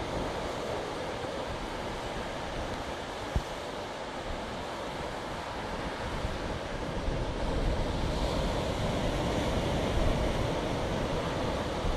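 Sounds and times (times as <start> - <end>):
ocean surf on sand: 0.0 - 11.9.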